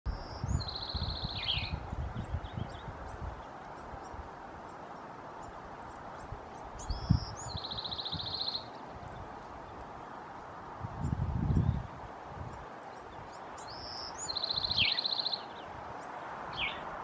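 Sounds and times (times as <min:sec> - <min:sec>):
background hiss: 0:00.1 - 0:17.0
wren singing: 0:00.1 - 0:17.0.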